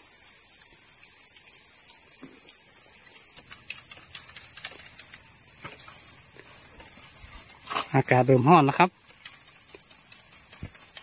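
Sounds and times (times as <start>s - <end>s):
high-pitched insect chorus: 0.0s - 11.0s
faint ticks and rustles: 0.4s - 11.0s.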